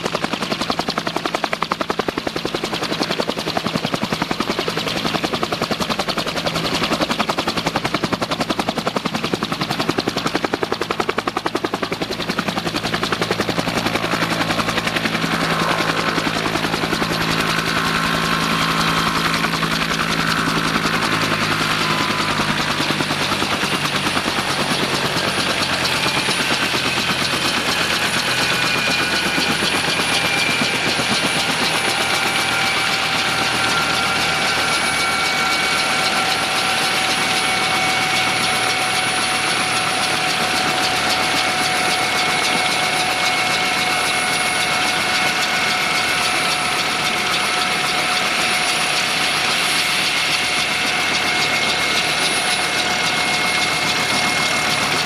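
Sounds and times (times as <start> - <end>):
constant rush: 0.0 - 55.0
helicopter rotor beat: 0.0 - 55.0
helicopter turbine whine: 0.0 - 55.0.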